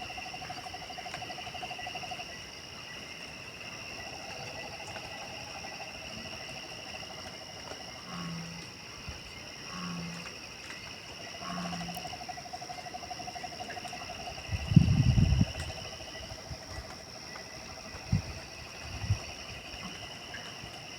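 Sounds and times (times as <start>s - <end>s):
insects and frogs trilling: 0.0s - 20.9s.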